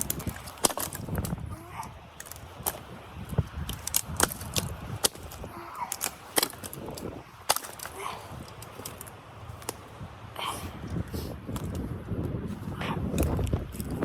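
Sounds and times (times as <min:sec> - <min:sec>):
sharp cracks and snaps: 0:00.0 - 0:09.9, 0:10.8 - 0:12.4, 0:13.1 - 0:14.0.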